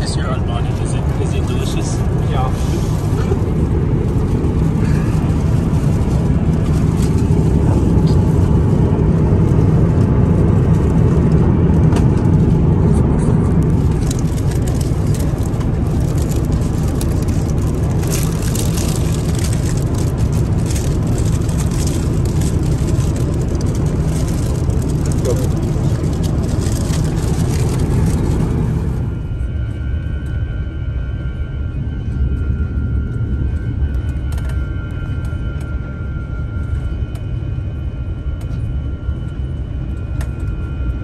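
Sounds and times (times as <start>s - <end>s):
airflow noise in cabin: 0.0s - 41.0s
airliner engine noise: 0.0s - 41.0s.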